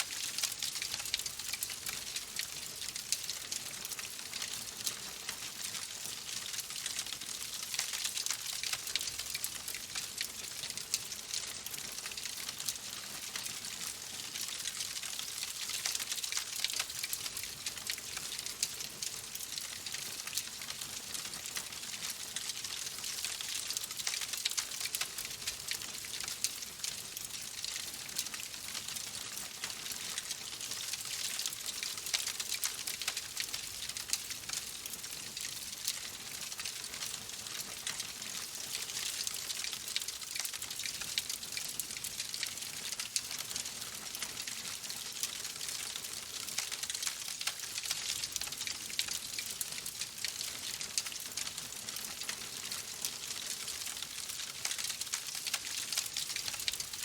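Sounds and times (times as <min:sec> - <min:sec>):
wood fire crackling: 0:06.4 - 0:14.0, 0:14.7 - 0:51.4, 0:52.0 - 0:57.0.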